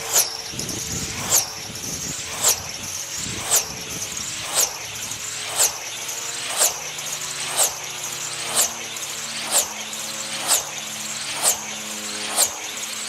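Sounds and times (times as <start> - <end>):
electric car passing whine: 0.0 - 13.0
steady motor whine: 0.0 - 13.0.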